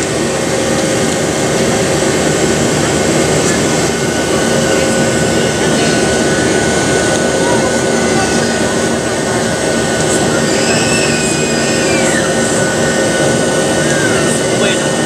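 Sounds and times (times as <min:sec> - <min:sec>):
airliner cabin engine roar: 0:00.0 - 0:15.0
steady humming tones: 0:00.0 - 0:15.0.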